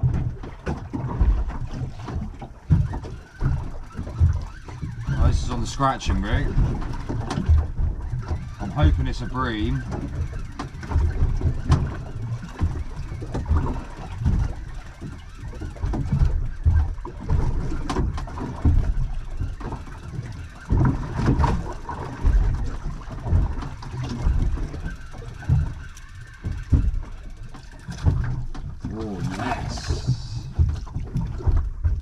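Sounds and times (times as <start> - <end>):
water lapping against boat hull: 0.0 - 32.0.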